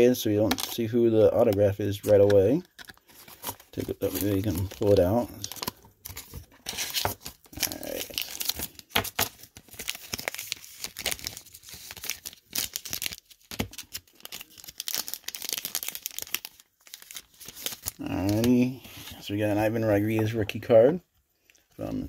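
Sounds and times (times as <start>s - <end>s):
plastic sleeves crinkling: 0.0s - 20.8s.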